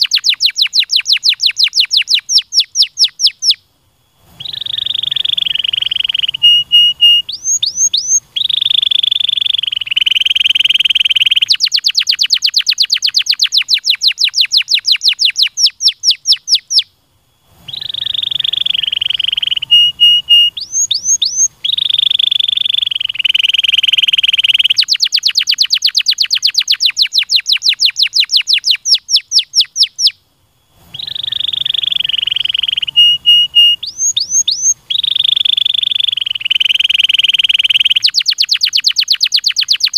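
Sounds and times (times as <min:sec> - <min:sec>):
canary singing trills: 0:00.0 - 0:03.6, 0:04.2 - 0:39.9.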